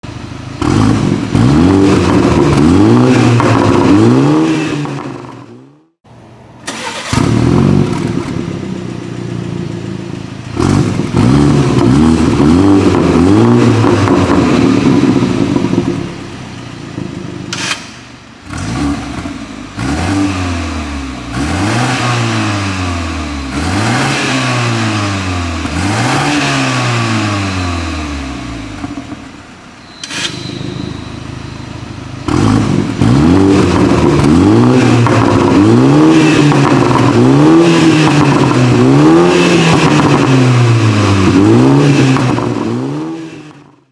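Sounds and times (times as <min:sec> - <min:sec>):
car engine revving: 0:00.1 - 0:06.0, 0:06.7 - 0:43.8.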